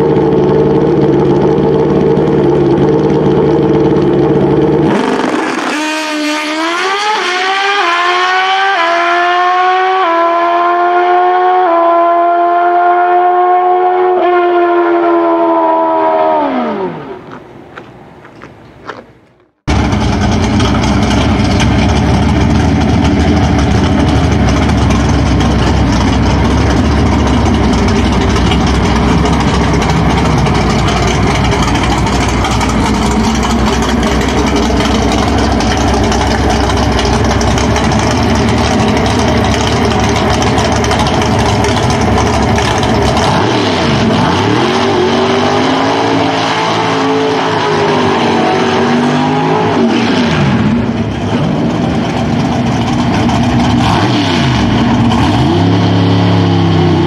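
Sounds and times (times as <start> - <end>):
drag car engine revving: 0.0 - 17.2, 19.6 - 57.0.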